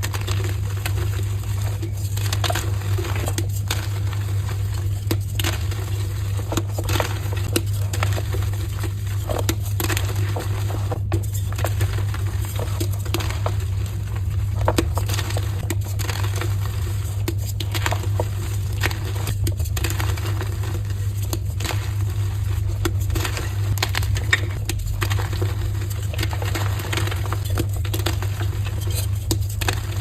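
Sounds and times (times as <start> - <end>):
chalk being crushed: 0.0 - 30.0
steady low hum: 0.0 - 30.0.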